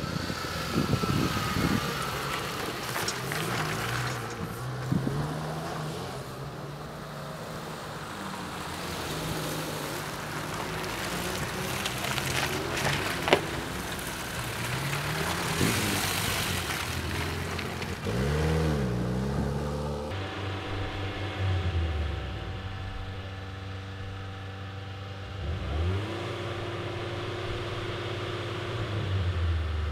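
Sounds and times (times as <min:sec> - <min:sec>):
engine revving: 0:00.0 - 0:29.9
off-road vehicles driving past: 0:00.0 - 0:29.9.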